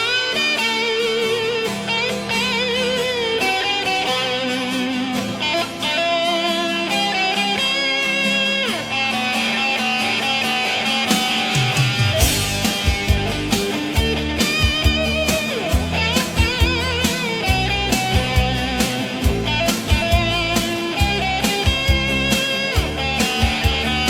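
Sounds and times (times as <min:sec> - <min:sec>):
electric guitar music: 0:00.0 - 0:24.0.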